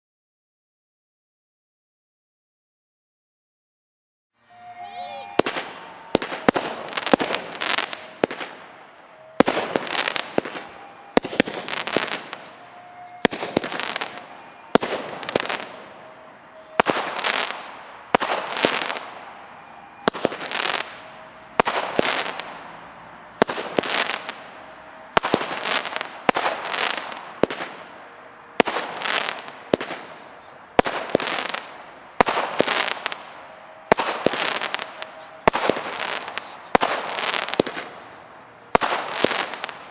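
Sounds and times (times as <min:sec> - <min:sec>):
firework bangs: 0:04.5 - 0:39.9
firework crackling: 0:04.5 - 0:39.9.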